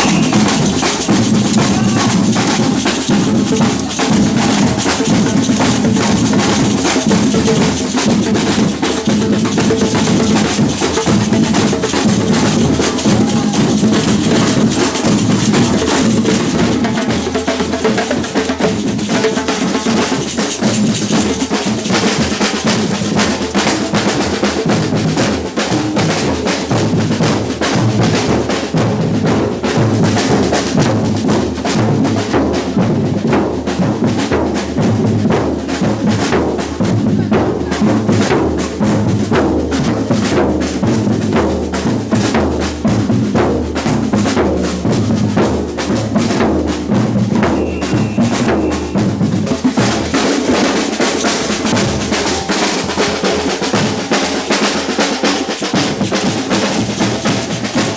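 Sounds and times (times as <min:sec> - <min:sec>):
samba percussion ensemble: 0:00.0 - 0:57.9.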